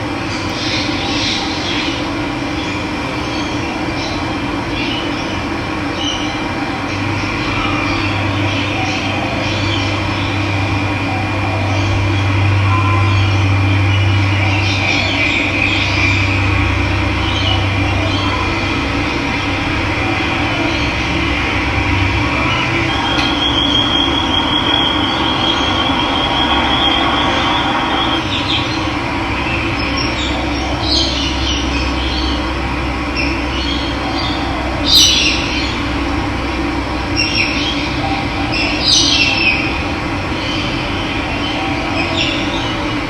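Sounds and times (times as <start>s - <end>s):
birds trilling and chirping: 0.3s - 43.0s.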